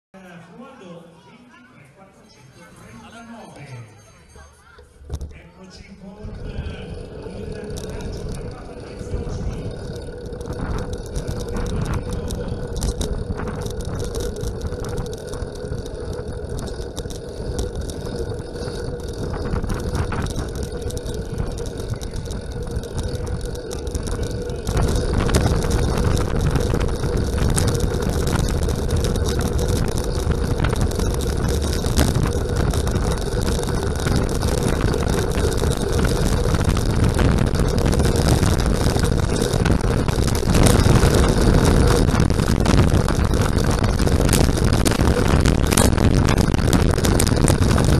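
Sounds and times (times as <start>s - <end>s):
steady hum: 4.6s - 47.9s
bicycles rolling at speed: 4.8s - 47.9s
wind rushing over microphone: 6.1s - 47.9s.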